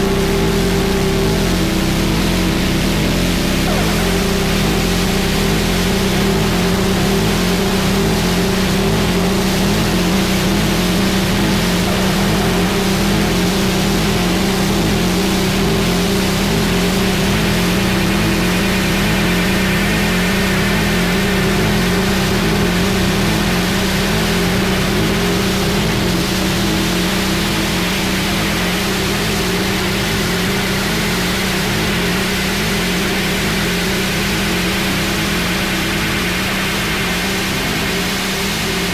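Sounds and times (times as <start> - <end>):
distorted noise music: 0.0 - 38.9
low droning hum: 0.0 - 38.9.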